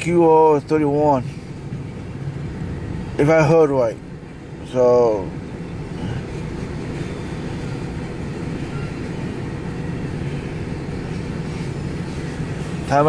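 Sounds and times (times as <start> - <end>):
faint hum: 0.0 - 13.0
freight train rumbling past: 0.0 - 13.0.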